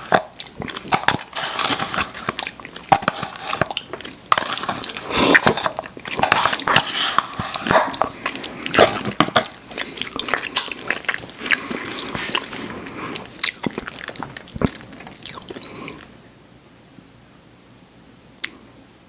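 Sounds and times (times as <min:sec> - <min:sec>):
chewing crunchy cookies: 0:00.0 - 0:16.2.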